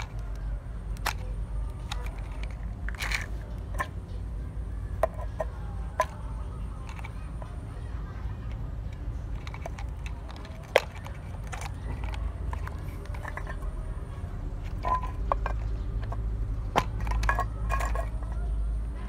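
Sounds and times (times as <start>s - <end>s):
clicks and taps of toy parts: 0.0s - 18.6s.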